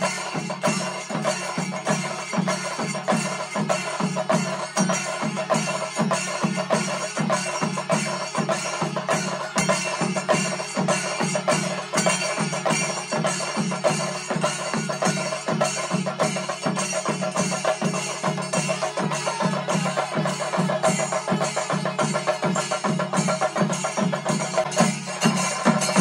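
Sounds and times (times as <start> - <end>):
drums playing fast beat: 0.0 - 26.0.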